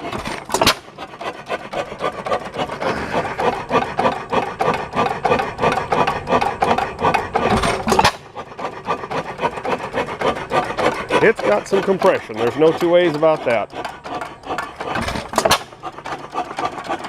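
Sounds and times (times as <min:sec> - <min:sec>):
engine firing stroke: 0:00.0 - 0:17.0
hit-and-miss engine clatter: 0:00.0 - 0:17.0.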